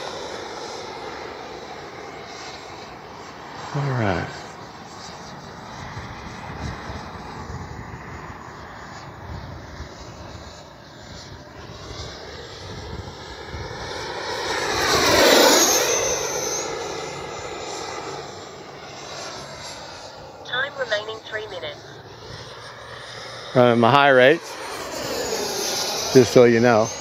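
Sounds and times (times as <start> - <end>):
electric ducted-fan jet whine: 0.0 - 27.0.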